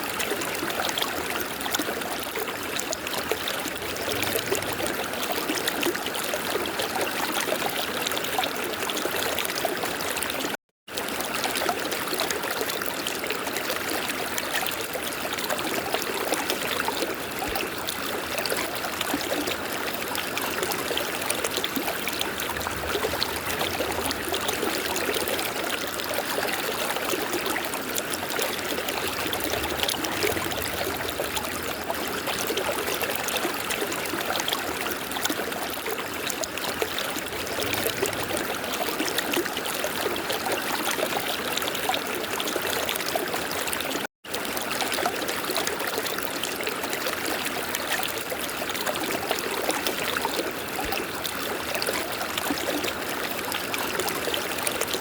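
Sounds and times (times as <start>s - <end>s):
river water flowing: 0.6s - 10.4s, 11.0s - 55.0s.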